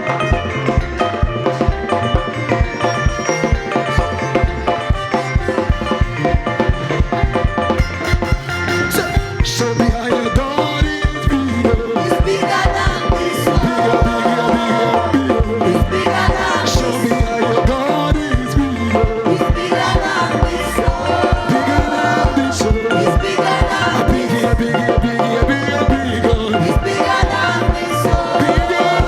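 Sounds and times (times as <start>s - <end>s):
upbeat worship music with percussion: 0.0s - 29.0s.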